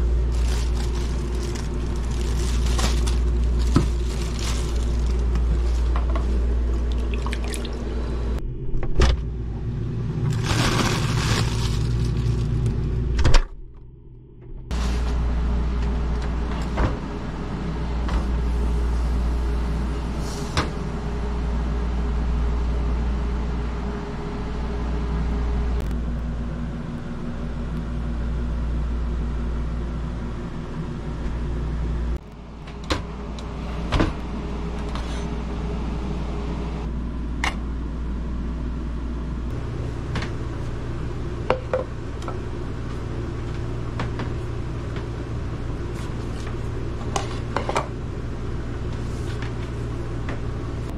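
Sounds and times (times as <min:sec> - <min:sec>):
motor or fan humming: 0:00.0 - 0:13.3, 0:14.7 - 0:50.9.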